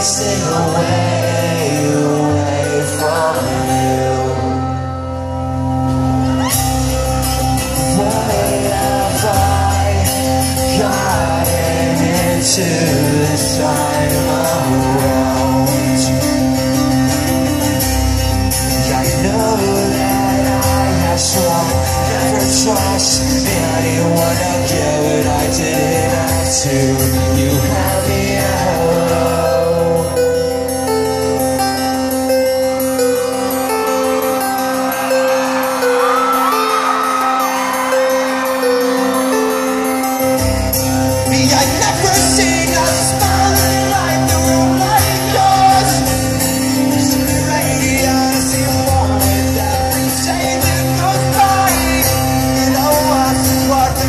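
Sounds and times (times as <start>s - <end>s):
man singing: 0.0s - 5.4s, 6.9s - 31.8s, 40.2s - 54.0s
guitar: 0.0s - 54.0s
live acoustic rock band: 0.0s - 54.0s.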